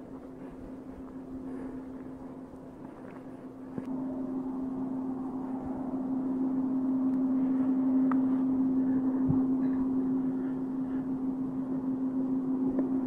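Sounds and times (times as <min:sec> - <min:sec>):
steady low-pitched hum: 0:00.0 - 0:13.0.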